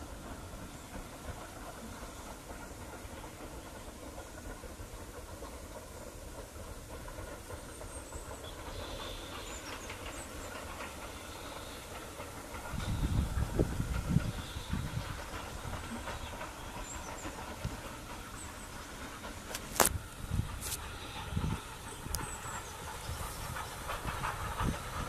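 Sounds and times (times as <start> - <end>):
low train rumble: 0.0 - 25.0
steam hiss: 0.0 - 25.0
steam locomotive exhaust: 0.0 - 25.0.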